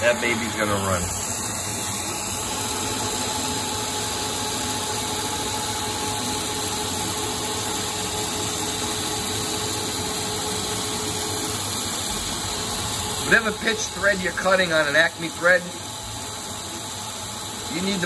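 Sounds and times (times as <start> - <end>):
lathe cutting steel: 0.0 - 6.8, 7.8 - 18.0
coolant mist hissing: 0.0 - 18.0.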